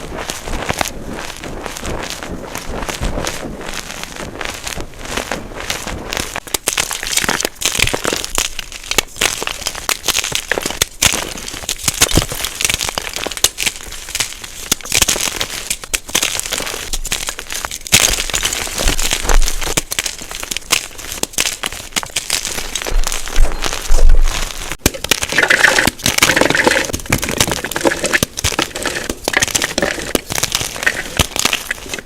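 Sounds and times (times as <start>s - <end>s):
chalk crunching and crackling: 0.0s - 32.0s.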